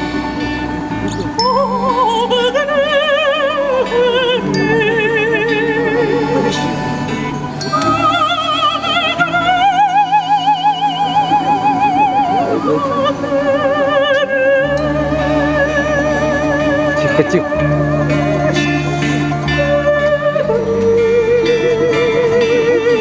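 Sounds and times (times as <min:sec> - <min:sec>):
soprano operatic singing: 0:00.0 - 0:23.0
sustained instrumental accompaniment: 0:00.0 - 0:23.0.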